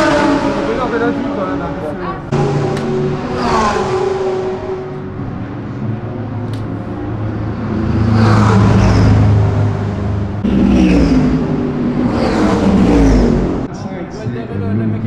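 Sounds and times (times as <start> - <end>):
race cars passing by: 0.0 - 15.0.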